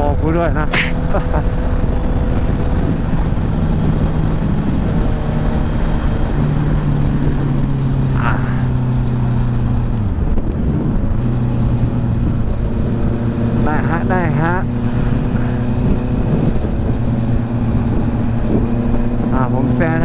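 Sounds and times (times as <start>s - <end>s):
motorcycle engine cruising: 0.0s - 20.0s
wind rushing over microphone: 0.0s - 20.0s.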